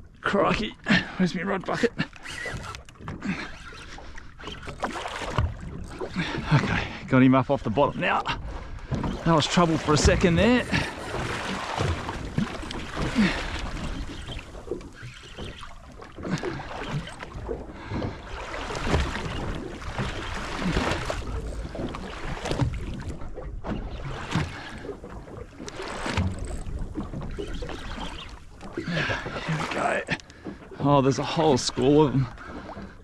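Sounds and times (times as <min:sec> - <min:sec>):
water slapping boat hull: 0:00.0 - 0:33.0.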